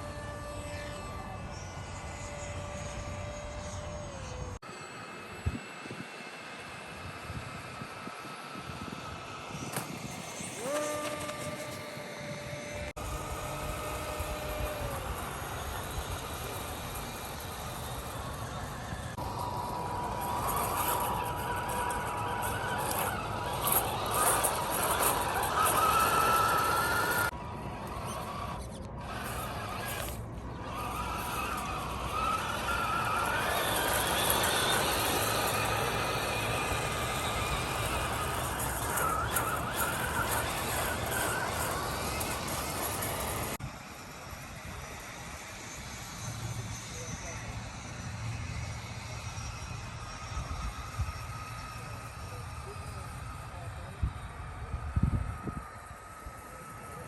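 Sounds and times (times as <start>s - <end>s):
higher steady whine: 0.0s - 57.0s
small electric motor whine: 0.0s - 57.0s.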